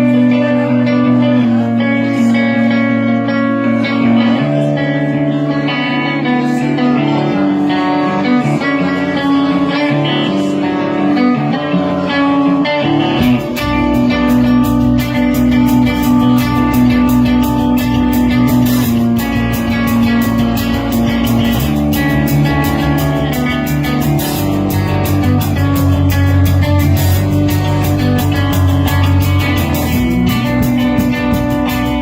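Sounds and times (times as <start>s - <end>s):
drums and bass guitar: 0.0s - 32.0s
strummed guitar chords: 0.0s - 32.0s.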